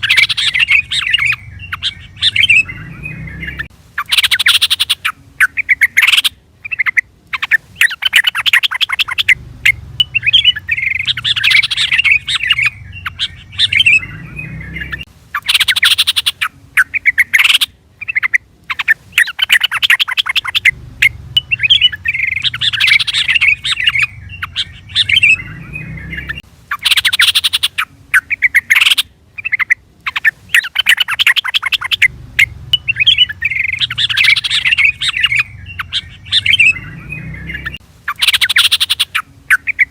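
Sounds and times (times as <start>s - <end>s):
bulbul chattering calls: 0.0s - 39.9s.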